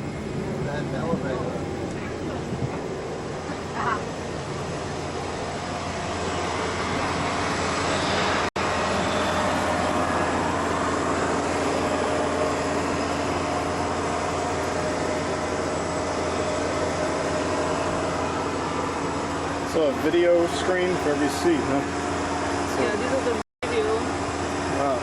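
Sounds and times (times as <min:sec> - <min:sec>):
air conditioning whooshing hum: 0:00.0 - 0:25.0.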